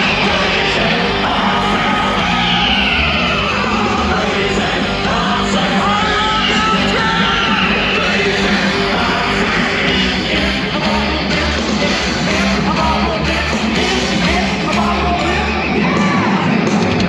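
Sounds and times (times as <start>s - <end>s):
rock music with vocals: 0.0s - 17.0s.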